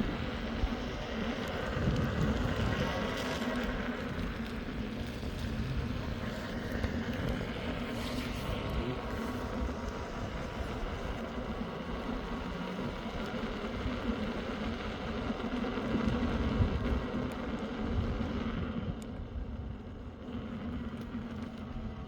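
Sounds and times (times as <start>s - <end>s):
faint motor whine: 0.0s - 22.0s
wind on microphone: 0.0s - 22.0s.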